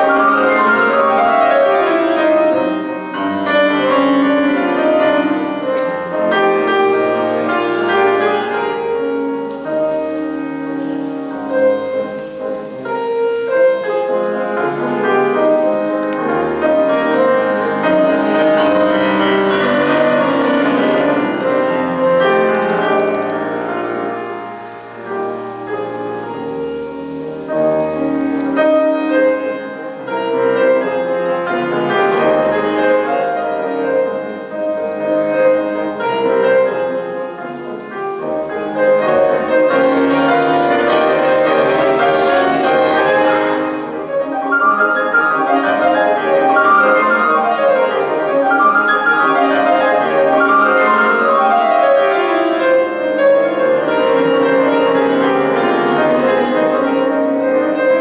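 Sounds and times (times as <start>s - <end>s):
classical piano solo: 0.0s - 58.0s.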